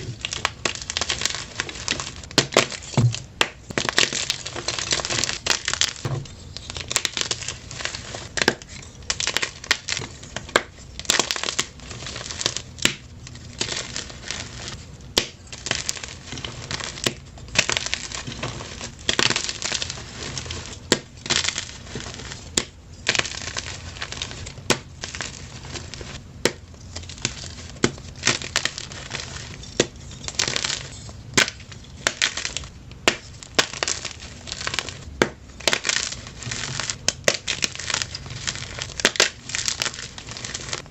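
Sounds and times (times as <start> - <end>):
chalk crunching and cracking: 0.0 - 40.9.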